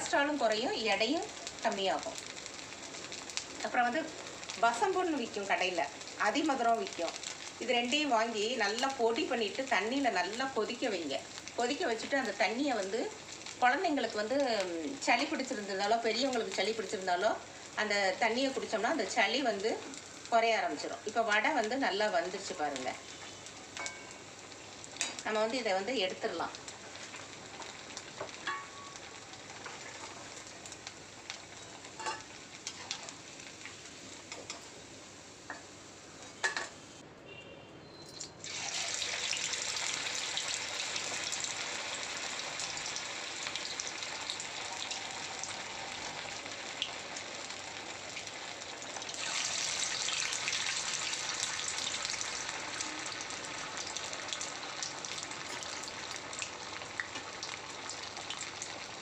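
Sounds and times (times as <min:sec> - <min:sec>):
food deep-frying in hot oil: 0:00.0 - 0:37.0, 0:38.1 - 0:59.0.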